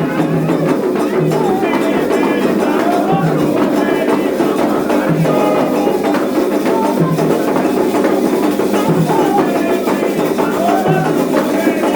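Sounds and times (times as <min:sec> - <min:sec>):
dense percussion: 0:00.0 - 0:11.9
person singing: 0:00.0 - 0:11.9.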